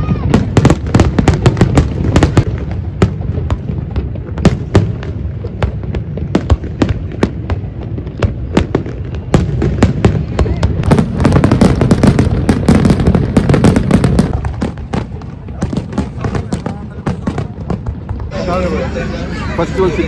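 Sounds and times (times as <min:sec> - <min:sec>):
fireworks bursting with sharp bangs: 0:00.0 - 0:20.0.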